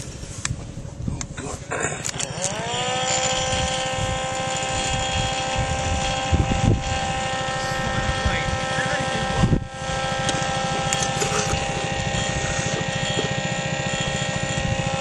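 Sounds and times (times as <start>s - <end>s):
blower fan whine: 0.0s - 15.0s
blower fan clicks: 2.0s - 15.0s.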